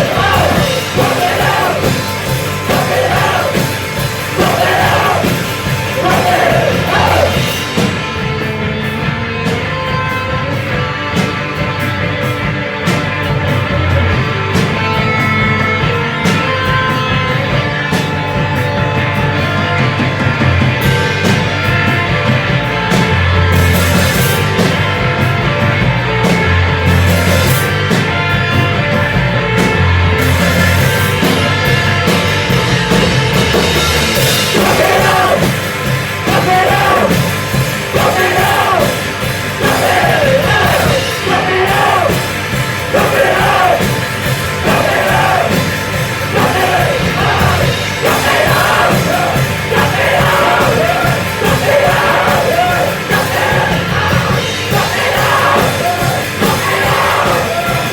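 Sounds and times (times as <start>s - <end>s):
rock band playing: 0.0s - 57.9s.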